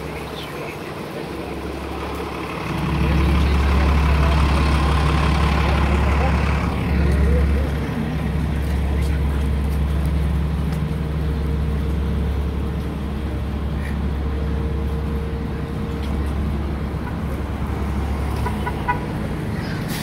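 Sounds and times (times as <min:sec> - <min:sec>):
traffic engine rumble: 0:00.0 - 0:20.0.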